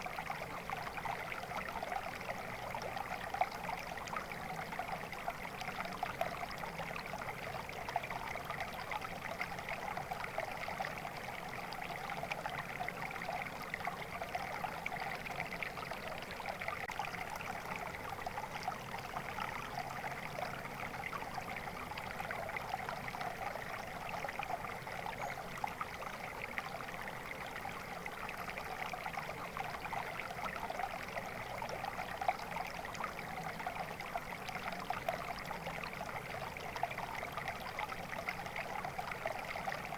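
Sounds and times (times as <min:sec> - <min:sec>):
shallow water trickling: 0:00.0 - 0:39.9.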